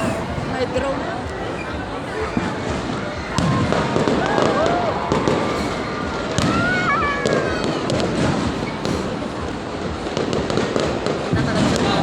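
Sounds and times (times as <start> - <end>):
crowd voices: 0.0 - 12.0
firework whistling: 0.0 - 12.0
fireworks bursting and crackling: 0.0 - 12.0.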